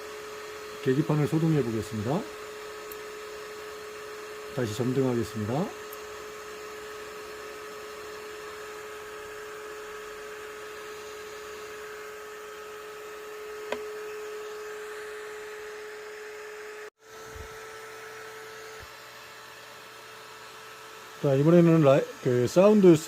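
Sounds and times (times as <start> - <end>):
small electric motor whining: 0.0 - 23.0.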